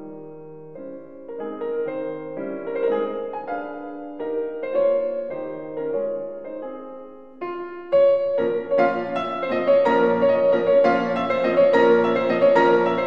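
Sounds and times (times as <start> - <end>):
piano melody of held notes: 0.0 - 13.0.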